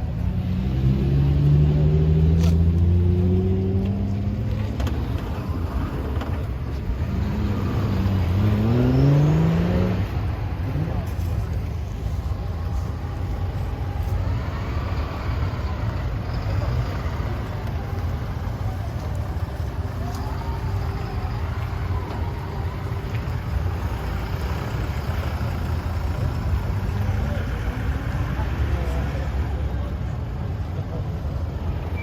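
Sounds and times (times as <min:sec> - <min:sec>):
vehicle engines rumbling: 0:00.0 - 0:32.0.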